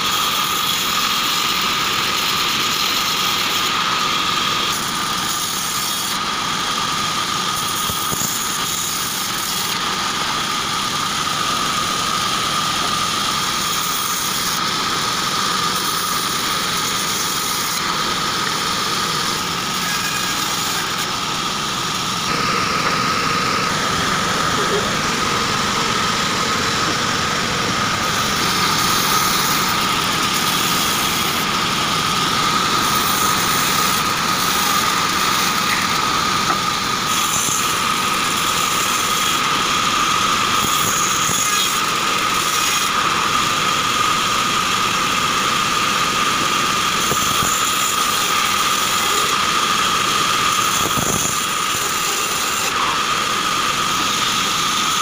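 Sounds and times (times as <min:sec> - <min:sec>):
band saw whining: 0:00.0 - 0:55.0.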